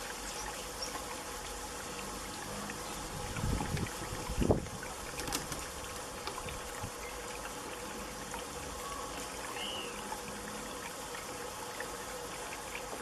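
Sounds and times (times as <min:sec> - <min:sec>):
fountain water trickling: 0:00.0 - 0:13.0.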